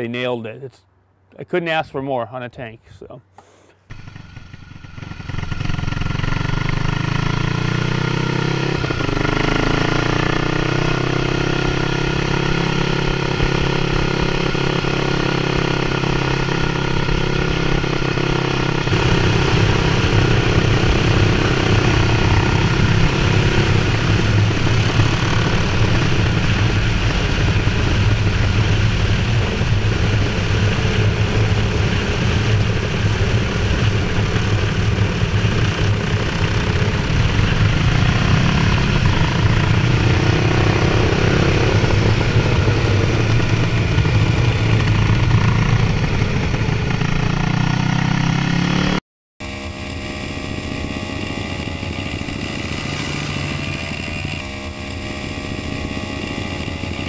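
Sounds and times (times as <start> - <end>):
motorcycle engine accelerating: 3.9 - 57.0
rough noisy engine note: 3.9 - 57.0.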